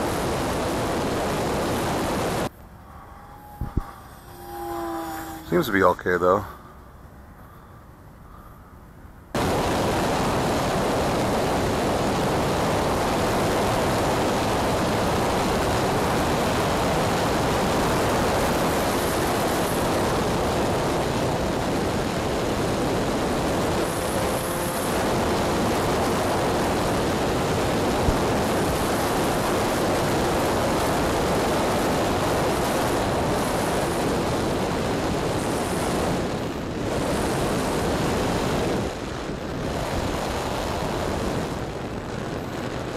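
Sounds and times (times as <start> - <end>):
wind rushing over microphone: 0.0 - 7.6, 9.3 - 42.9.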